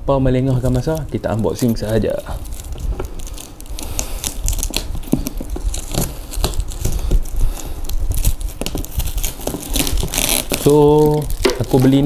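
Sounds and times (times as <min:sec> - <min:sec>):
plastic crinkling and tearing: 0:00.5 - 0:12.0
scissors cutting plastic wrap: 0:00.6 - 0:12.0.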